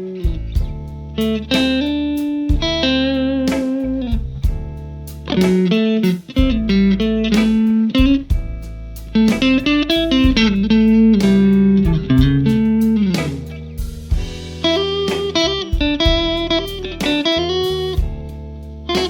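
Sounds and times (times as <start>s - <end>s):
guitar melody with pitch bends: 0.0s - 19.0s.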